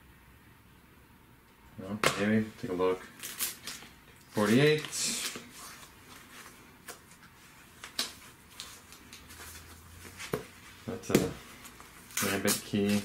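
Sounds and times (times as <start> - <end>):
plastic sleeves rustling: 2.0 - 13.0.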